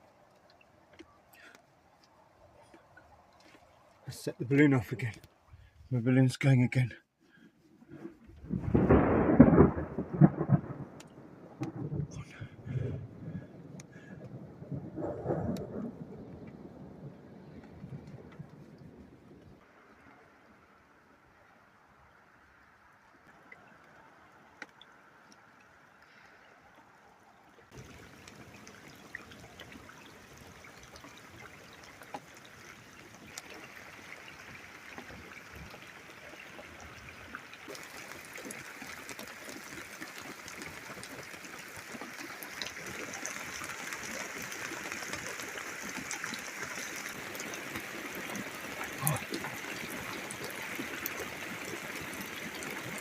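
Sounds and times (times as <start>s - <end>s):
water drips and splashes: 0.0s - 6.0s, 7.2s - 53.0s
rain falling: 0.0s - 53.0s.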